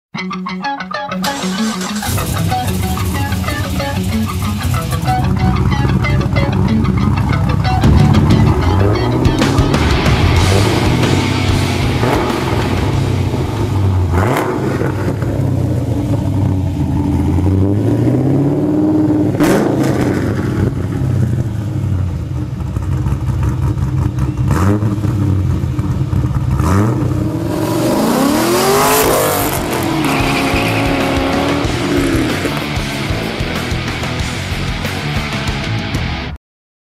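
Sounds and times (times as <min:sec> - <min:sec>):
car engine idling and revving: 0:01.2 - 0:35.2
car accelerating away: 0:01.3 - 0:34.0.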